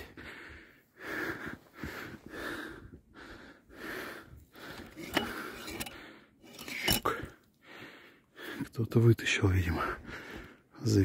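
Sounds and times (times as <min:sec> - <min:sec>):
man breathing hard: 0:00.0 - 0:08.6, 0:09.9 - 0:10.8.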